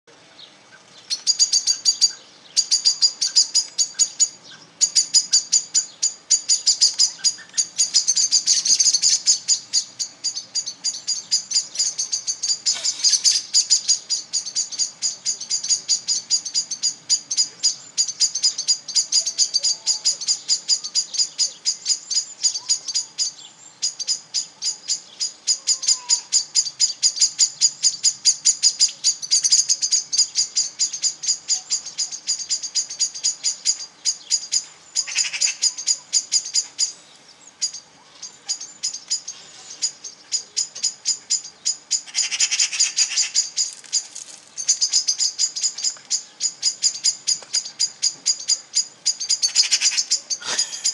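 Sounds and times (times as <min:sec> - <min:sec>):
birds alarm chips: 0:00.2 - 0:50.9.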